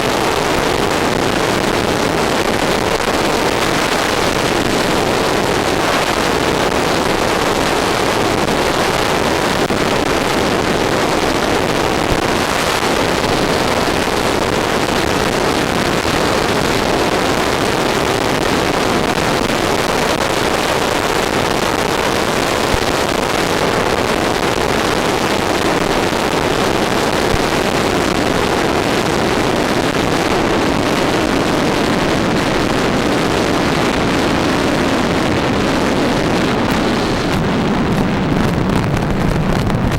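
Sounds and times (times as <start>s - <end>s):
model jet motor and air rushing: 0.0s - 39.9s
wind buffeting microphone: 0.0s - 39.9s.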